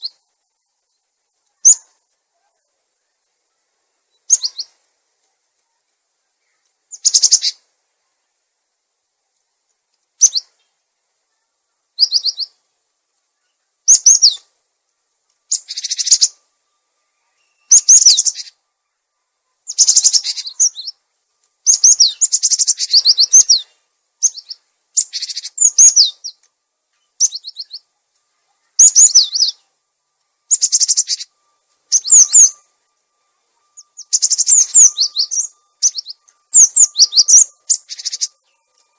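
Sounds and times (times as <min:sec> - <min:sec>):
bird chirping: 0:00.0 - 0:08.4, 0:10.0 - 0:14.6, 0:15.3 - 0:38.9.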